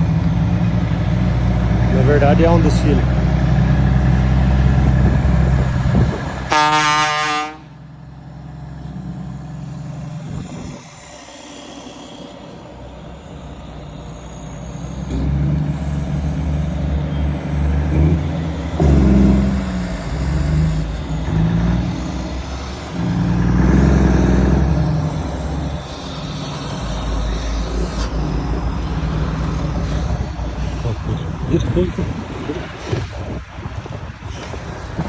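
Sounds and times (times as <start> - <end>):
truck diesel engines rumbling: 0.0 - 35.0.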